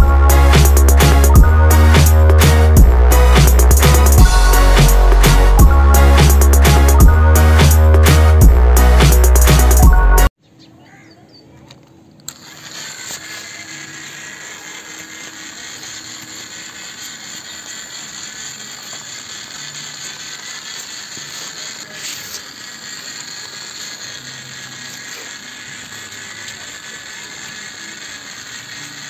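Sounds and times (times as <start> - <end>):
small motor humming: 0.0 - 10.3, 12.2 - 29.0.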